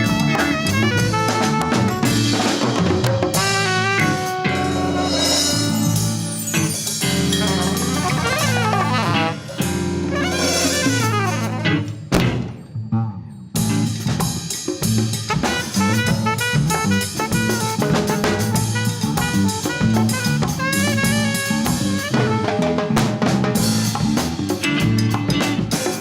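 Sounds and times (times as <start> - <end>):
latin fusion band playing: 0.0 - 12.5, 13.6 - 26.0
drum kit: 0.0 - 12.7, 13.6 - 26.0.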